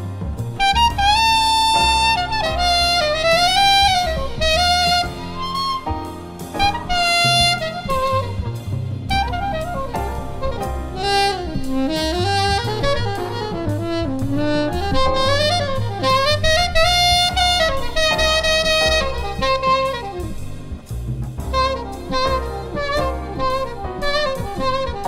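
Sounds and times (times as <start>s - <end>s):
drums and bass backing track: 0.0s - 25.0s
soprano saxophone jazz solo: 0.0s - 25.0s.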